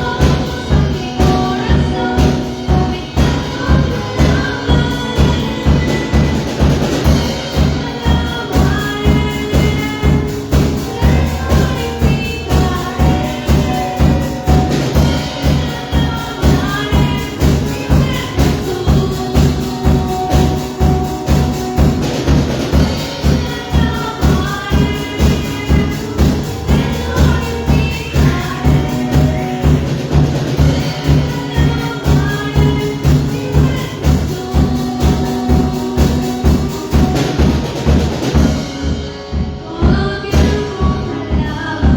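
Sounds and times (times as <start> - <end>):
band music with steady beat: 0.0 - 41.9.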